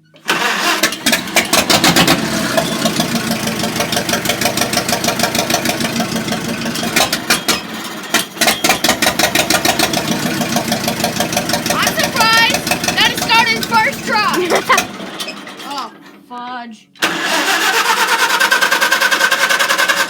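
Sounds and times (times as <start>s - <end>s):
tractor engine running: 0.0s - 16.4s, 17.0s - 20.0s.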